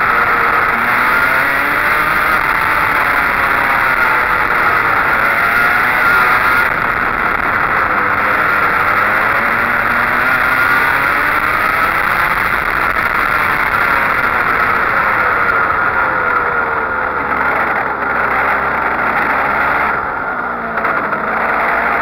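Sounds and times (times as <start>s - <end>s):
go-kart engine revving: 0.0s - 22.0s.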